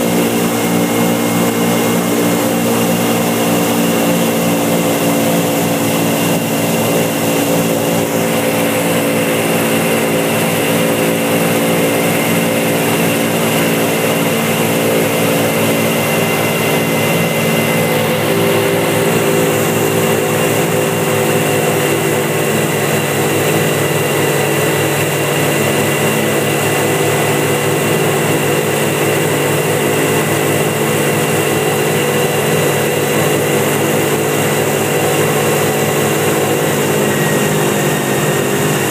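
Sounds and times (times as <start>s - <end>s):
boat motor droning: 0.0s - 38.9s.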